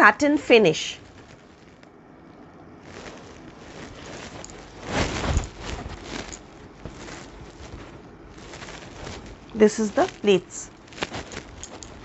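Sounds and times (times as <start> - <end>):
fabric rustling: 0.2 - 12.0.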